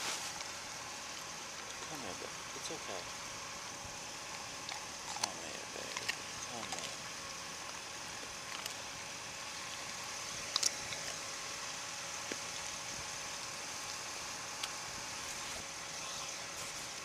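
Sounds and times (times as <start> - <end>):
faint steady hum: 0.0 - 17.0
outdoor background hiss: 0.0 - 17.0.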